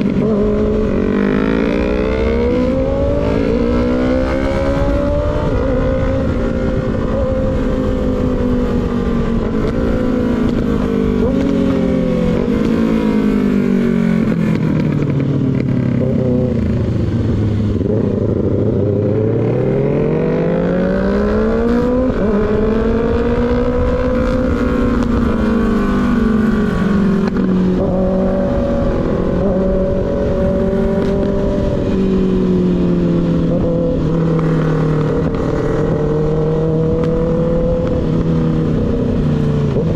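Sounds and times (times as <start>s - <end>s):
motorcycle engine: 0.0s - 39.9s
wind rumbling on microphone: 0.0s - 39.9s.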